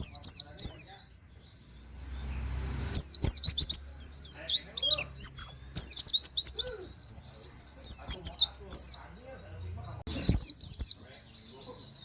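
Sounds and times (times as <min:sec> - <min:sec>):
bird singing chirps and whistles: 0:00.0 - 0:09.0, 0:10.1 - 0:12.0.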